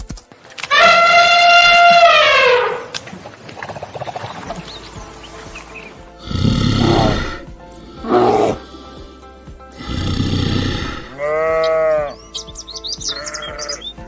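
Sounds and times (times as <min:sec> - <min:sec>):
background music: 0:00.0 - 0:14.0
rough animal calls: 0:00.6 - 0:14.0.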